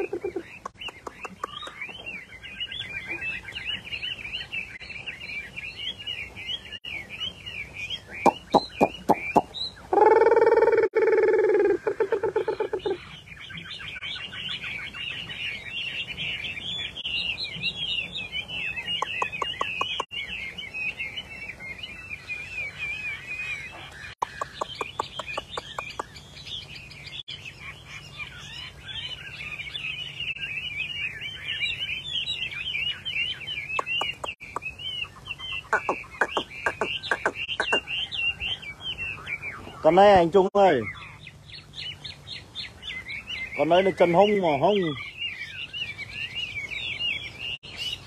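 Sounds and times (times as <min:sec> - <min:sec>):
bird warbling song with trills: 0:00.0 - 0:48.0.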